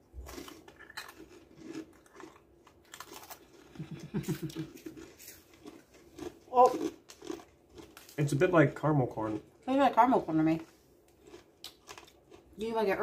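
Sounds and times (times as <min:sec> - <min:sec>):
crunchy snack chewing: 0:00.1 - 0:09.5, 0:11.1 - 0:12.6.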